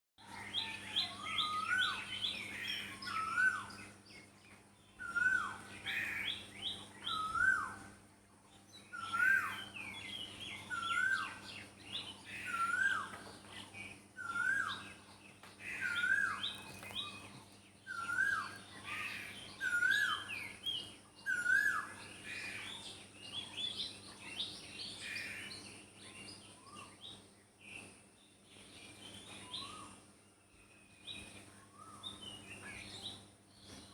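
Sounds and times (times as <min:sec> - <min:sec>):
birds chirping: 0:00.2 - 0:33.9
faint steady hum: 0:00.2 - 0:33.9.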